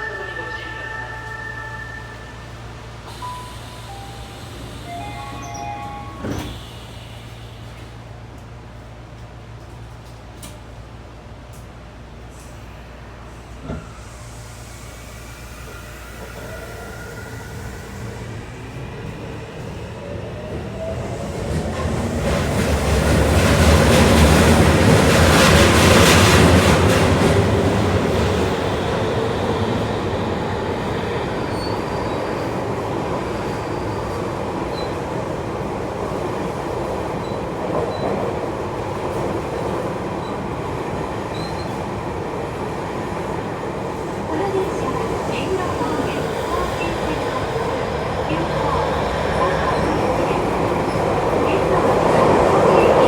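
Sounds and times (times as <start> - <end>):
train running noise: 0.0 - 53.0.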